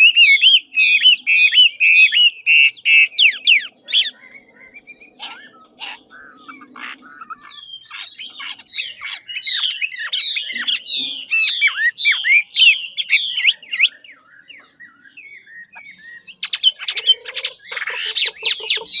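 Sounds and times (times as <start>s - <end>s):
bird singing rapid notes: 0.0s - 19.0s.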